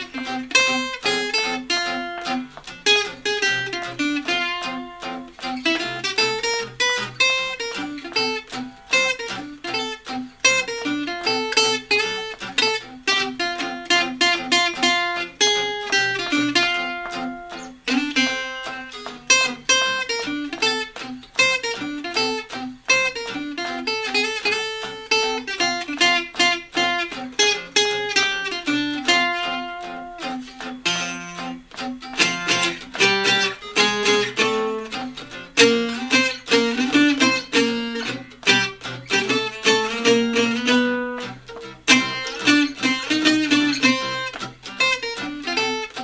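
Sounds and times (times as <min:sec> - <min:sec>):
two acoustic guitars playing: 0:00.0 - 0:46.0.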